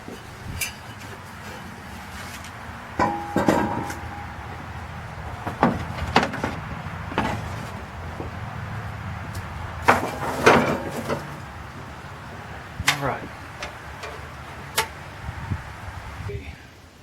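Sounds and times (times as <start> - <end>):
hand tools knocking and clanking: 0.0 - 15.8.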